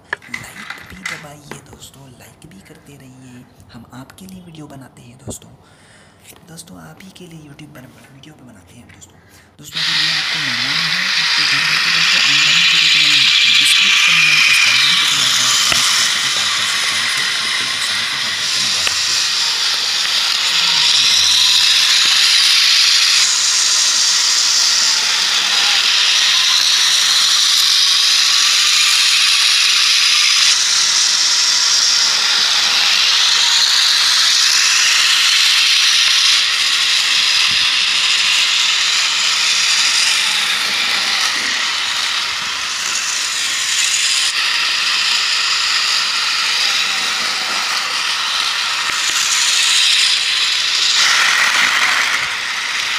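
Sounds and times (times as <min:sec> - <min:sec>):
toy train motor whirring: 0:00.0 - 0:01.4, 0:09.7 - 0:52.9.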